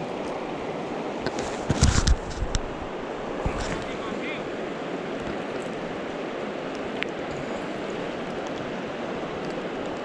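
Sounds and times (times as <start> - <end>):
river rushing over stones: 0.0 - 10.0.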